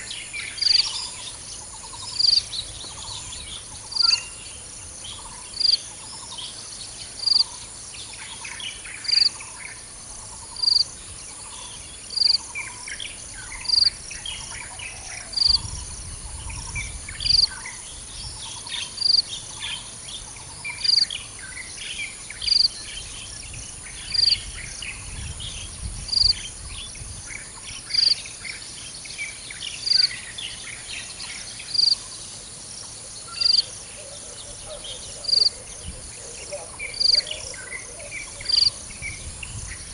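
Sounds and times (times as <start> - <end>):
bird chirps: 0.0 - 10.8, 11.4 - 39.9
high insect drone: 0.0 - 39.9.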